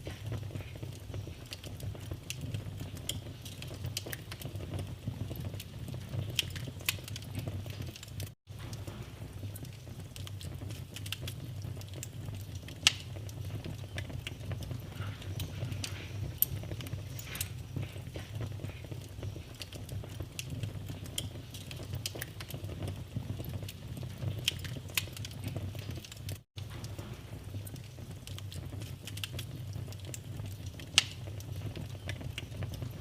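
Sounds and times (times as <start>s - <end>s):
fire popping: 0.0s - 33.0s
wood fire crackling: 0.0s - 33.0s.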